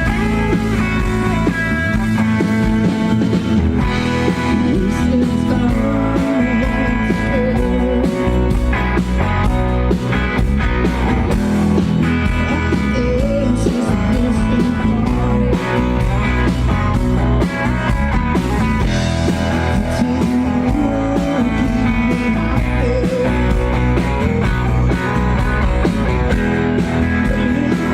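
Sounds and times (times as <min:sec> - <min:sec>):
electric guitar melody: 0:00.0 - 0:27.9
live rock band playing: 0:00.0 - 0:27.9.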